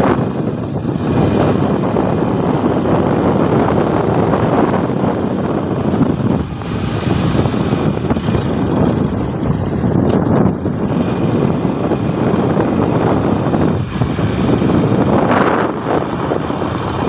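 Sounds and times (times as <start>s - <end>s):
small engine running: 0.0s - 17.0s
wind buffeting microphone: 0.0s - 17.0s.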